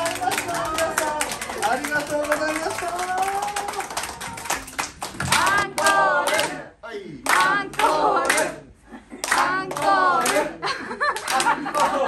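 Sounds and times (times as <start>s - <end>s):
audience clapping: 0.0s - 6.6s, 7.2s - 8.6s, 9.2s - 12.0s.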